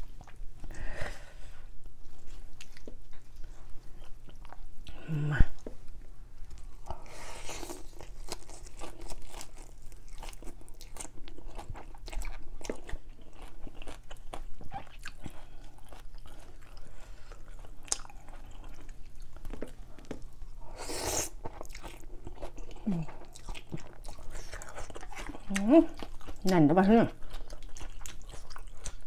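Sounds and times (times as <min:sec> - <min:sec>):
person chewing crunchy food: 0:00.0 - 0:00.8, 0:01.7 - 0:29.0.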